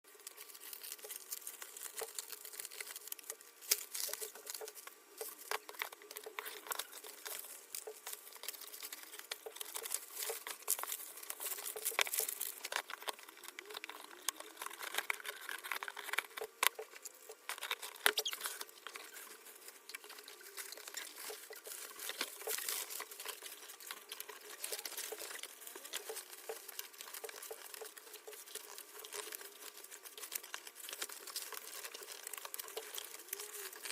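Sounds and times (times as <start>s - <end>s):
packaging rustling and crinkling: 0.1s - 33.9s.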